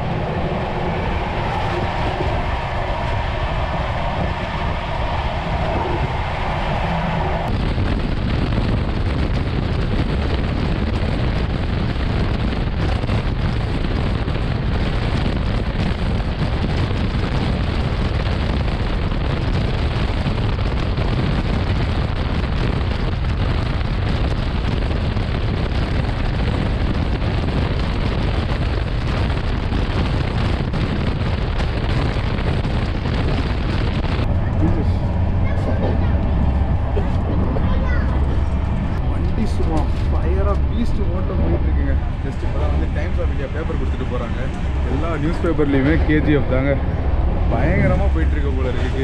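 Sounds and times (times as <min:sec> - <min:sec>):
train wheels rumbling at speed: 0:00.0 - 0:49.0.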